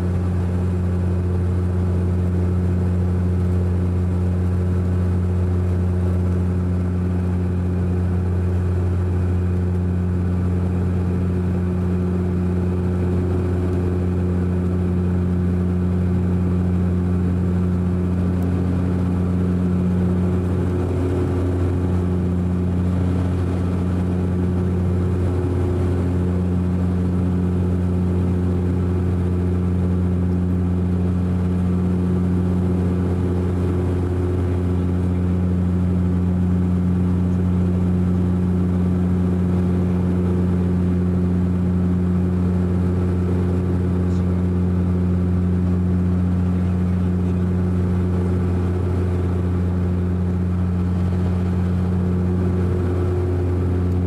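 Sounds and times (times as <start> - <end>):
deep propeller drone: 0.0 - 54.0.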